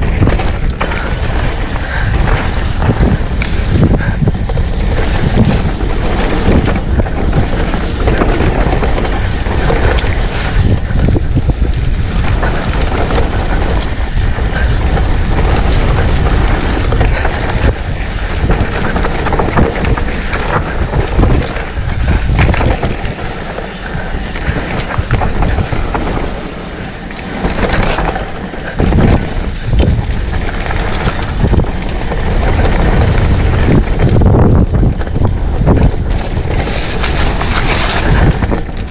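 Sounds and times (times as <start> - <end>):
bike rattling and knocking: 0.0 - 38.9
bike tyres crunching on dirt: 0.0 - 38.9
wind buffeting microphone: 0.0 - 38.9.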